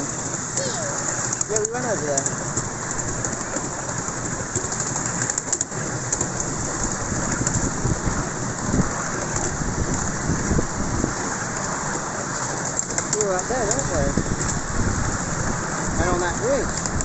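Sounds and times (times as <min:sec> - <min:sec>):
wheels clattering on rails: 0:00.0 - 0:17.0.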